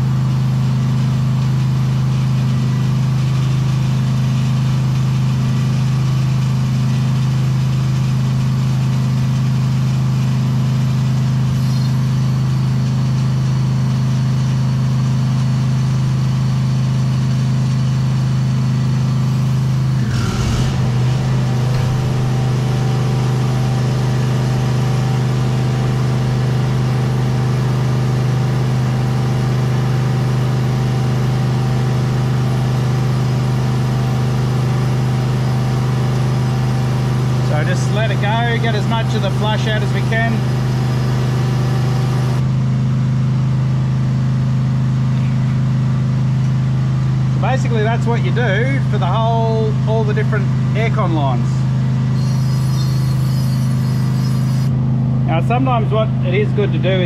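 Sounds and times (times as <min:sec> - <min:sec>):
air compressor humming: 0:00.2 - 0:42.5, 0:49.6 - 0:57.0.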